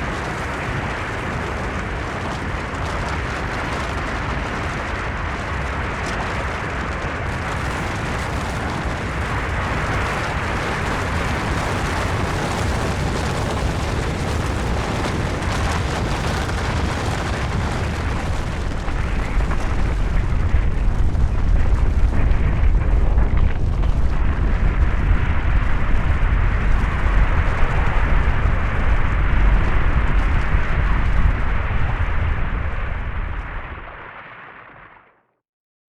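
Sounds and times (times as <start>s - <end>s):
rumble of sliding snow: 0.0s - 35.0s.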